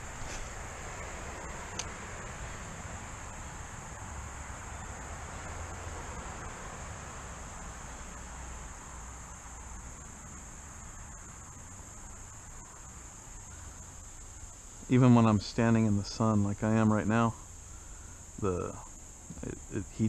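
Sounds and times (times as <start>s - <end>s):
insect chorus buzzing: 0.0s - 20.0s.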